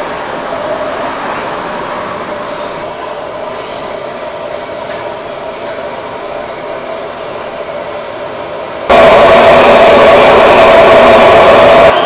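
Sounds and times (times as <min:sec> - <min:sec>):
faint hum: 0:00.0 - 0:12.0
fire roaring in oven: 0:00.0 - 0:12.0.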